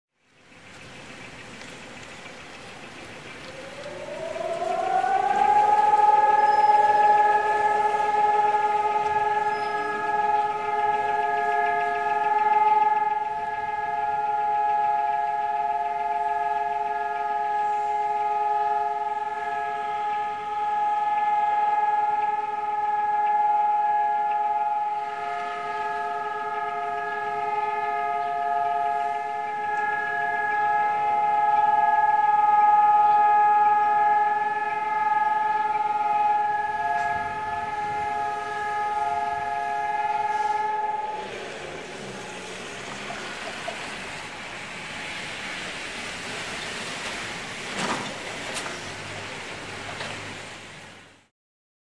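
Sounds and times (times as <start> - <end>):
civil defense sirens wailing: 0.2 - 51.3.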